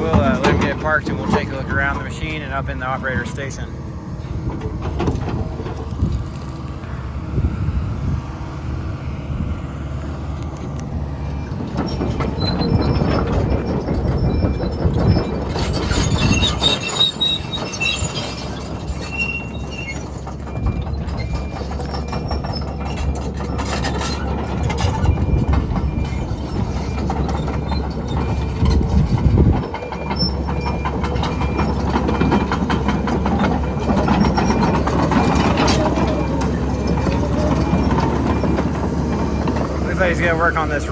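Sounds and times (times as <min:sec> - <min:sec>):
high metallic squeaks: 0:00.0 - 0:04.8, 0:11.2 - 0:40.9
excavator diesel engine under load: 0:00.0 - 0:40.9.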